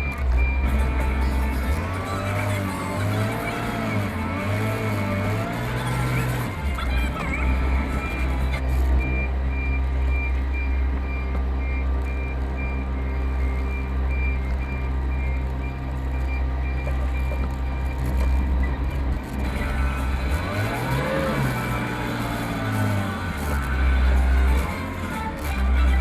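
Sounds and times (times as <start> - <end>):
truck engine rumble: 0.0 - 26.0
truck reversing alarm beeping: 0.0 - 26.0.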